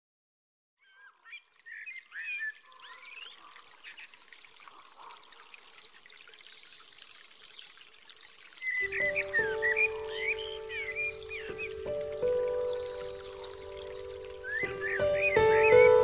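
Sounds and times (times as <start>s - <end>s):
birds whistling and chirping: 0.8s - 6.6s, 8.6s - 16.0s
water trickling: 0.8s - 16.0s.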